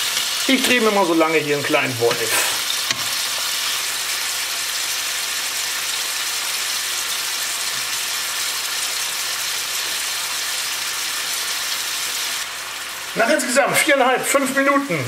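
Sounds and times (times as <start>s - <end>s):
pork sizzling in frying pan: 0.0s - 15.0s.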